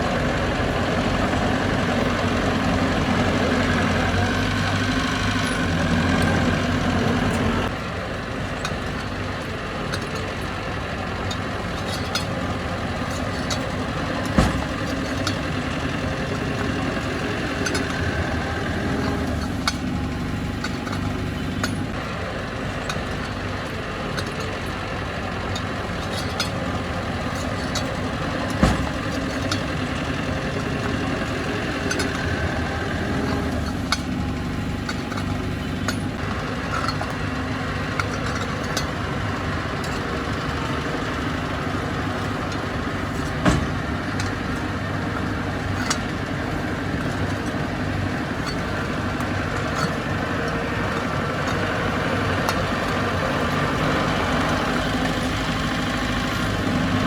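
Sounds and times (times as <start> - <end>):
metallic clanks: 0.0 - 7.8, 9.8 - 22.0, 24.1 - 57.0
heavy diesel machinery running: 0.0 - 57.0.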